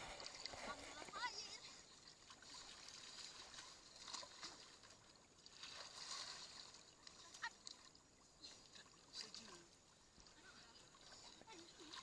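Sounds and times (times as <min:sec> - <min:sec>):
sloshing of wading in water: 0:00.0 - 0:12.0.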